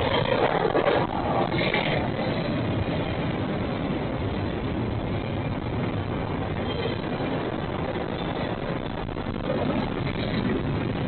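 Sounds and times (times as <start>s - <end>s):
freight train rolling by: 0.0s - 11.0s.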